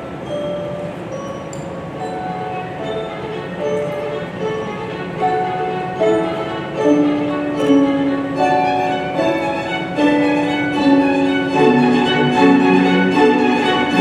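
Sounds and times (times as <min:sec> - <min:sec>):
orchestra playing: 0:00.0 - 0:14.0
violins holding long notes: 0:00.0 - 0:14.0.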